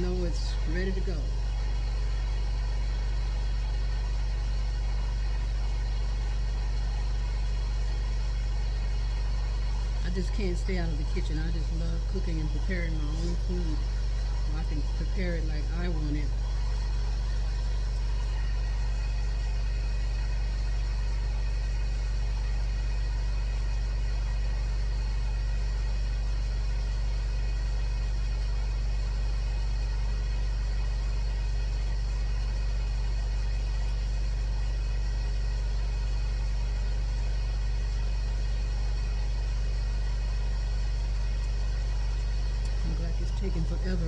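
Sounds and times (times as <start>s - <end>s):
grill fan humming: 0.0s - 44.0s.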